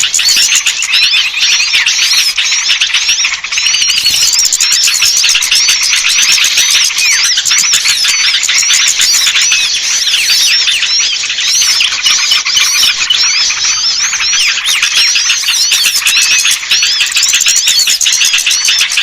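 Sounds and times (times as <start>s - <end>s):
songbirds chirping and twittering: 0.0s - 19.0s.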